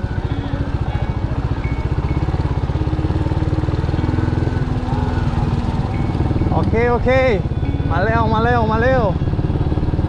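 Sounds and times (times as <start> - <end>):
motorcycle engine chugging: 0.0 - 10.0.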